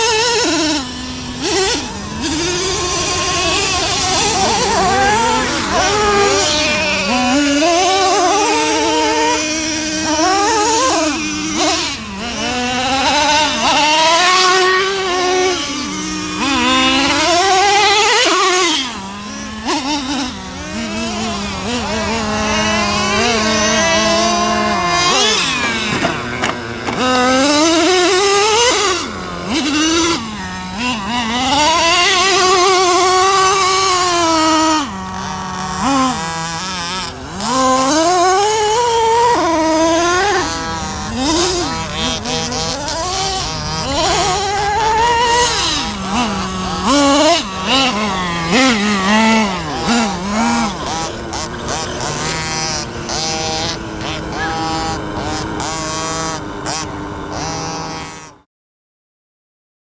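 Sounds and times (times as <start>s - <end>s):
model nitro engine revving: 0.0s - 58.5s.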